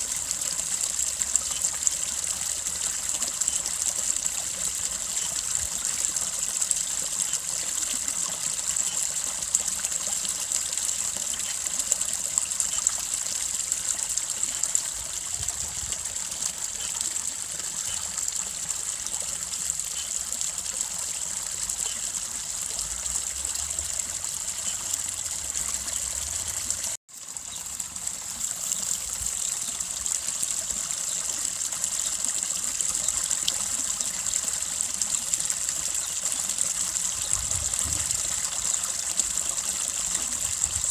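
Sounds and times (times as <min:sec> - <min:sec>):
water trickling over stones: 0:00.0 - 0:40.9.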